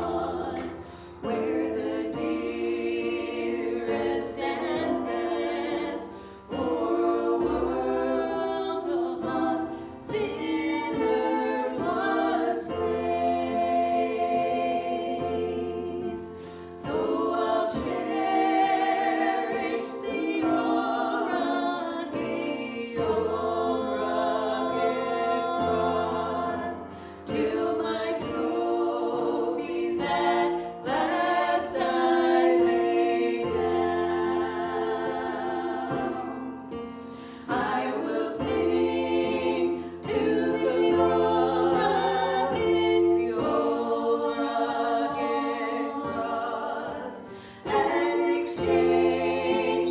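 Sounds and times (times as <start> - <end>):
voices singing a gospel song: 0.0 - 49.9.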